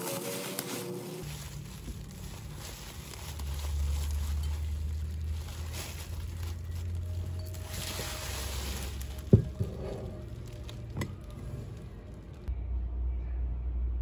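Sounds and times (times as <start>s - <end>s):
bubble wrap crinkling: 0.0s - 12.5s
road traffic rumble: 0.0s - 12.7s.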